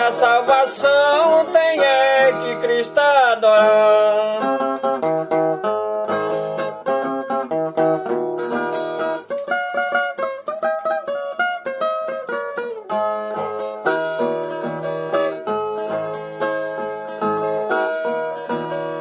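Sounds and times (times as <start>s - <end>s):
picked string instrument melody: 0.0s - 19.0s.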